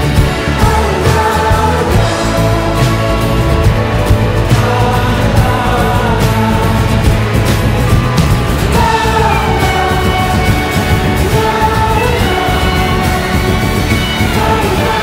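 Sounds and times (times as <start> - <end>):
indie rock music: 0.0 - 15.0.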